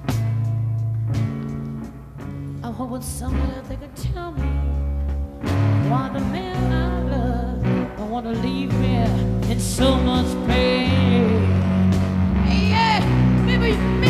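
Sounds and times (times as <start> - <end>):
blues-rock band playing: 0.0 - 2.8, 3.4 - 14.0
electric guitar lead line bending: 0.0 - 14.0.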